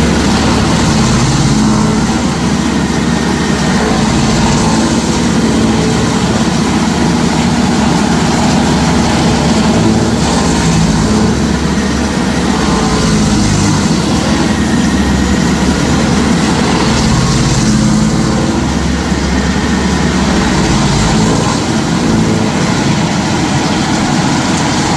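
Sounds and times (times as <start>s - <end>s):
stump grinder engine drone: 0.0s - 24.9s.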